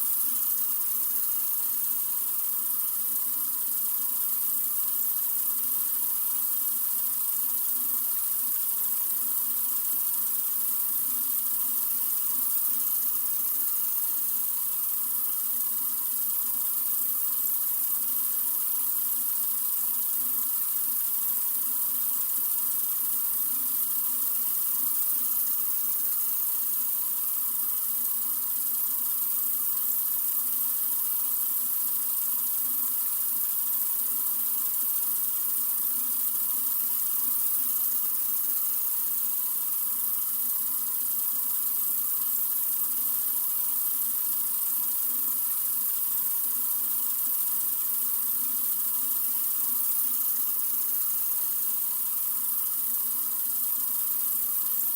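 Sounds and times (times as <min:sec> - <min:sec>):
sink faucet running: 0:00.0 - 0:54.9.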